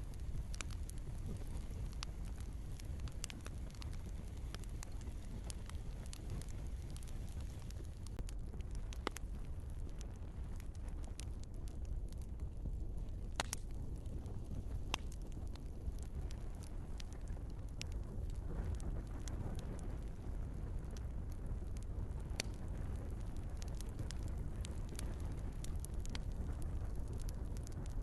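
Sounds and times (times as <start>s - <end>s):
logs crackling and popping: 0.0s - 28.0s
wood fire burning: 0.0s - 28.0s.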